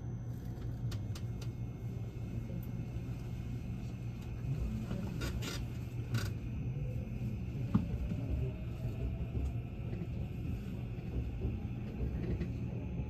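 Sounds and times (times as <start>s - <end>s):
train car rumble: 0.0s - 13.0s.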